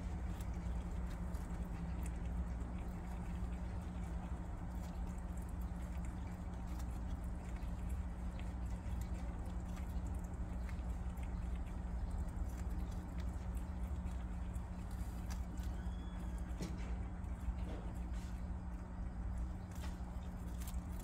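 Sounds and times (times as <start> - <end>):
animal chewing crunching clicks: 0.0 - 21.0
steady low hum: 0.0 - 21.0.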